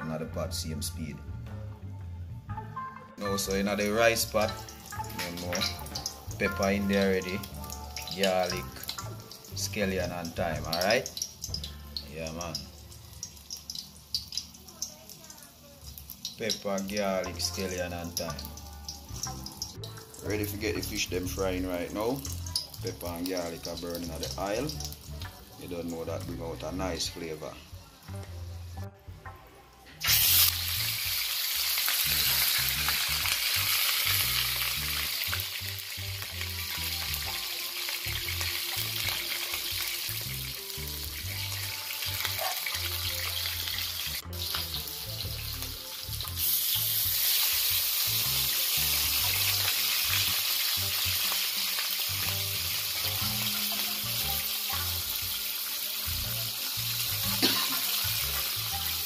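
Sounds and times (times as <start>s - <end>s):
background music with low beat: 0.0s - 14.6s, 15.9s - 59.0s
fish sizzling in hot oil: 3.2s - 28.8s, 30.0s - 59.0s.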